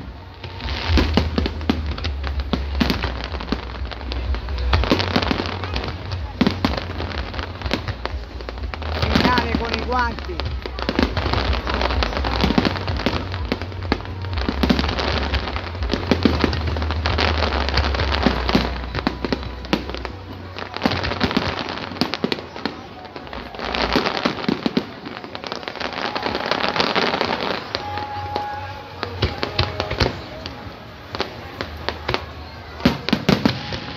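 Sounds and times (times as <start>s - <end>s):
fireworks crackling and popping: 0.0s - 33.9s.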